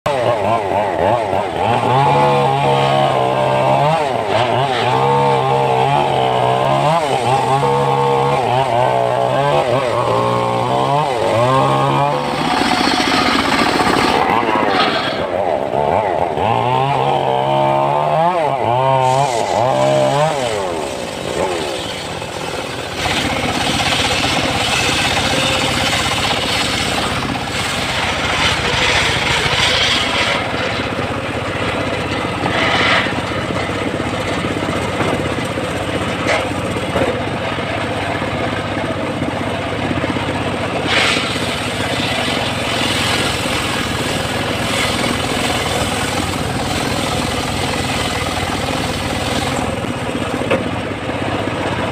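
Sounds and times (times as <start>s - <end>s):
saw blade cutting wood: 0.1s - 51.9s
sawmill running hum: 0.1s - 51.9s.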